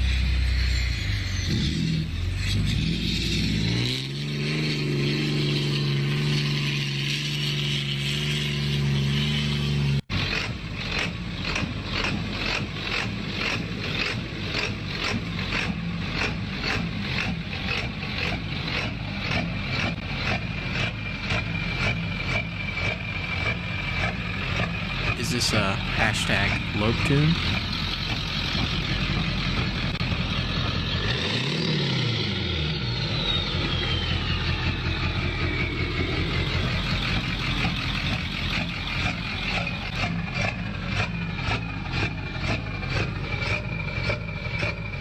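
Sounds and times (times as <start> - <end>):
pickup engine revving: 0.0 - 45.0
diesel pickup idling with choppy lope: 8.8 - 45.0.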